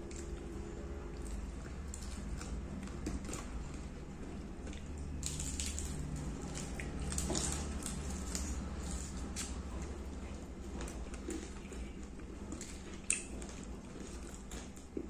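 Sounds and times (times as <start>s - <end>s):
people chewing and lip smacking: 0.0s - 15.0s.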